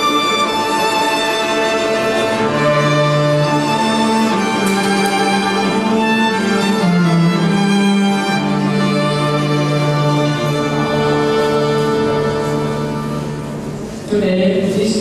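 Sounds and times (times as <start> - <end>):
violin melody: 0.0 - 14.1
low cello line: 0.0 - 14.9.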